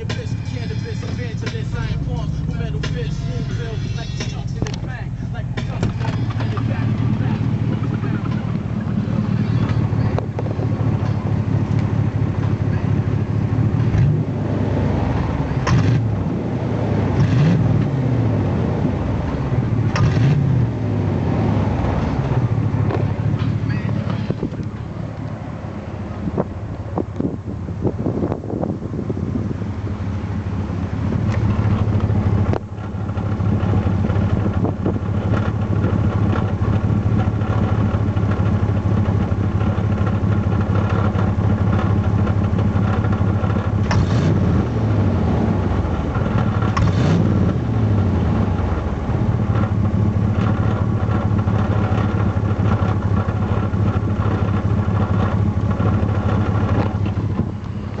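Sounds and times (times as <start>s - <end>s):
engine revving: 0.0s - 27.3s, 29.4s - 58.0s
car engine running: 0.0s - 58.0s.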